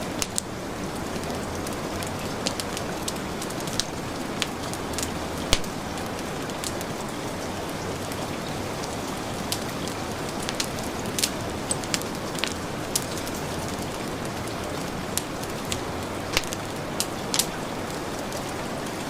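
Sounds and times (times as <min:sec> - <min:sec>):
heavy rain hissing: 0:00.0 - 0:19.0
wood fire crackling: 0:00.0 - 0:19.0.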